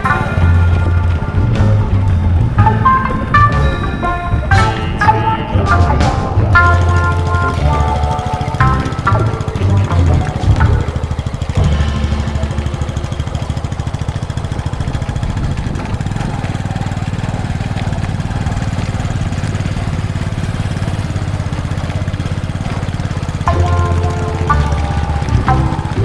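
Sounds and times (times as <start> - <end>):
engine pulsing drone: 0.0 - 26.0.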